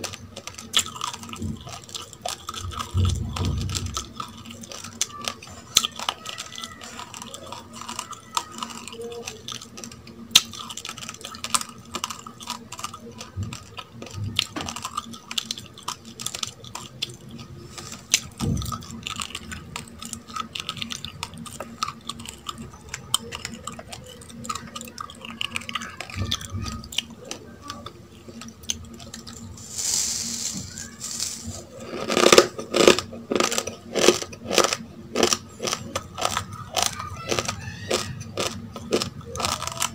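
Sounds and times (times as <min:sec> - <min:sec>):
chewing raw rice grains: 0:00.0 - 0:39.9.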